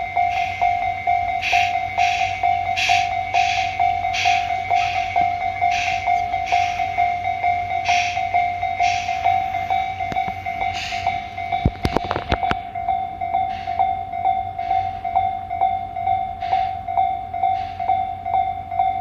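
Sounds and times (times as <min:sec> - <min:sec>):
level crossing warning bell ringing: 0:00.0 - 0:19.0
train passing with hiss bursts: 0:00.0 - 0:19.0.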